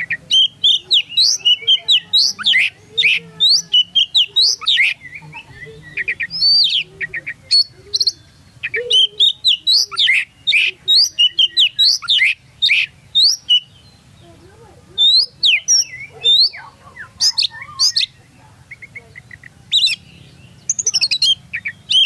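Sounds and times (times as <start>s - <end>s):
bird singing whistled notes: 0.0s - 14.3s, 15.0s - 22.0s.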